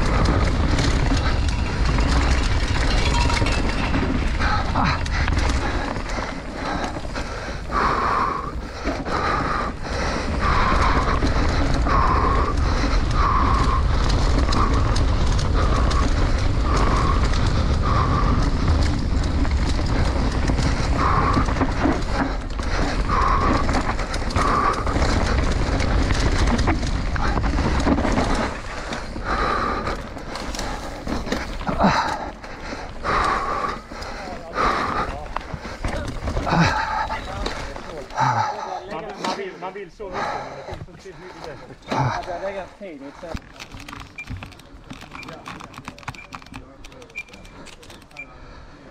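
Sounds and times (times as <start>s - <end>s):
rider breathing hard: 0.0s - 46.2s, 46.8s - 48.9s
bike rattling and knocking: 0.0s - 48.9s
tyres rumbling on dirt trail: 0.0s - 48.9s.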